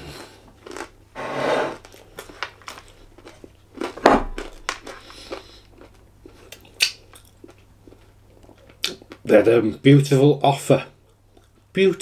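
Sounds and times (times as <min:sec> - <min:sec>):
man chewing food: 0:00.0 - 0:09.3, 0:11.0 - 0:11.7.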